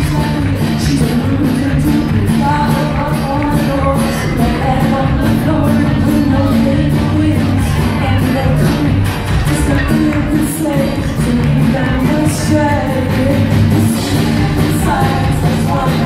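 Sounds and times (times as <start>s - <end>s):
drums: 0.0s - 16.0s
live band playing: 0.0s - 16.0s
woman singing: 0.0s - 16.0s.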